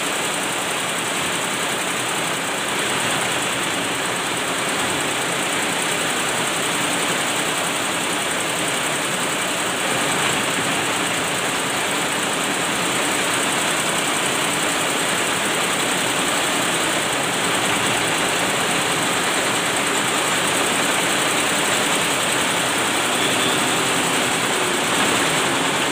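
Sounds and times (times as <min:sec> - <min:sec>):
embroidery machine stitching: 0:00.6 - 0:25.9.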